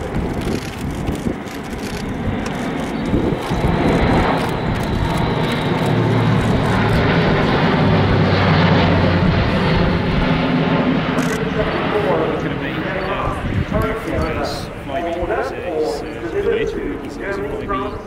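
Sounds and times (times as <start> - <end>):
propeller aircraft droning: 0.0 - 18.0.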